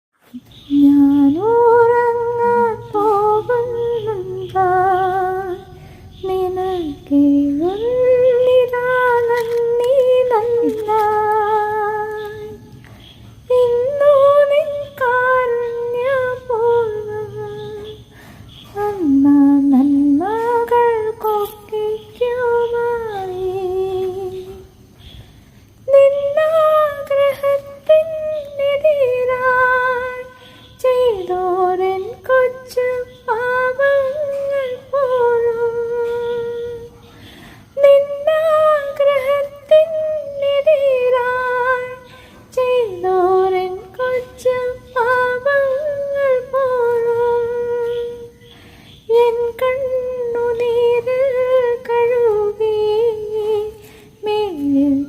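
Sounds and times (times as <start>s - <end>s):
person singing unaccompanied: 0.2s - 25.0s, 25.6s - 55.0s.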